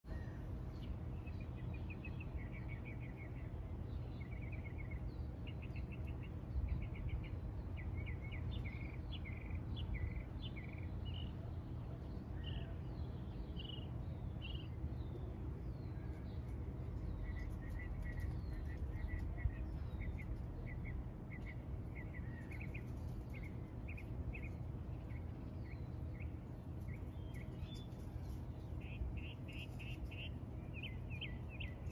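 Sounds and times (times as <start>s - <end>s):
songbirds chirping: 0.0s - 31.9s
low background rumble: 0.1s - 31.9s.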